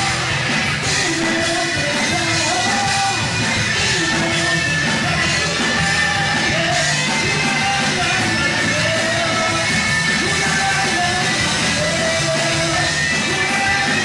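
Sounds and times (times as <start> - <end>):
live rock band playing: 0.0 - 14.0
man singing into a microphone: 0.8 - 14.0.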